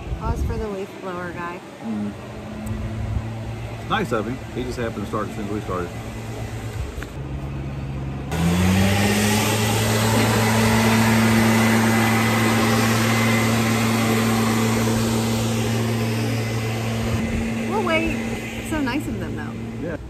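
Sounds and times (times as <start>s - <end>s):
leaf blower running: 0.0s - 20.0s.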